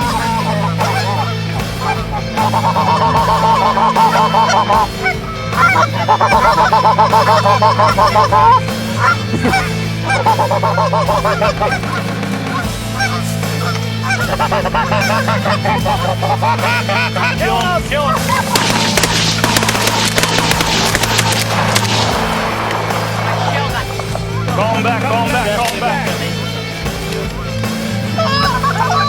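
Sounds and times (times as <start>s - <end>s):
goose honking: 0.0s - 26.6s.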